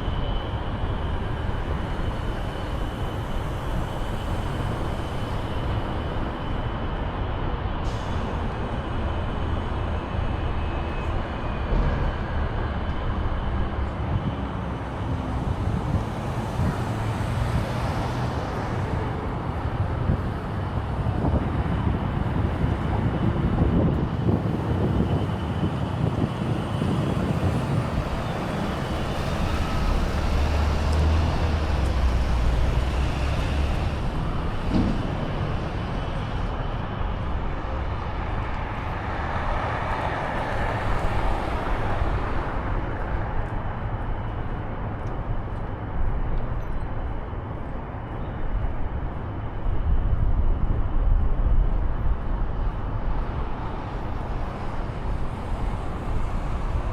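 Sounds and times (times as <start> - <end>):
large vehicle rumble: 0.0 - 56.9
vehicles passing: 8.2 - 56.9.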